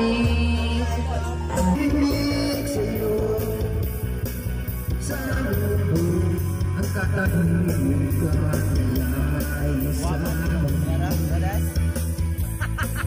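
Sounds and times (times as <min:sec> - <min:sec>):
man singing into a microphone: 0:00.0 - 0:11.3
backing track with bass line: 0:00.0 - 0:13.0.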